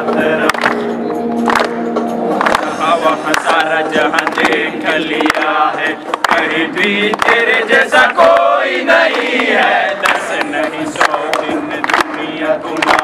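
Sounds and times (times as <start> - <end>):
hand claps: 0.1 - 13.0
men singing in chorus: 2.6 - 13.0.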